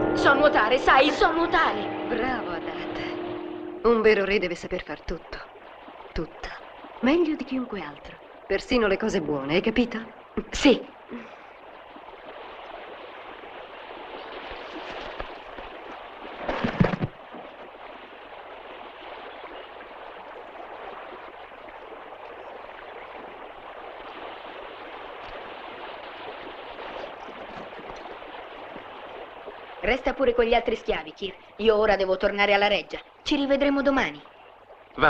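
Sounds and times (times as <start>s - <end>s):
flowing river water: 0.0s - 35.0s.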